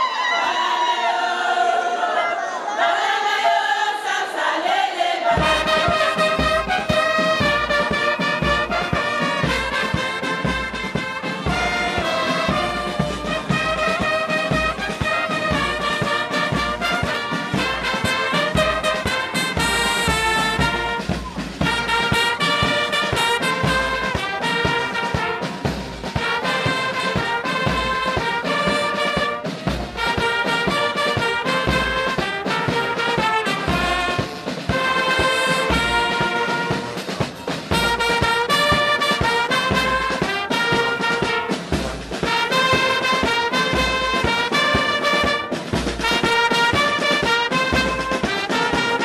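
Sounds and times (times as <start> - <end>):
brass music over a steady beat: 5.2 - 49.0.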